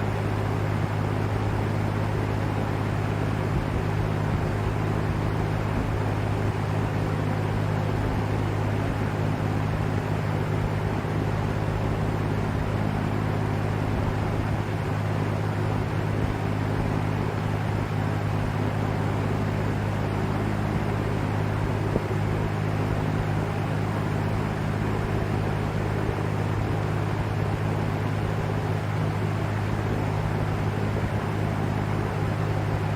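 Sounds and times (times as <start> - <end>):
box fan running: 0.0 - 32.9.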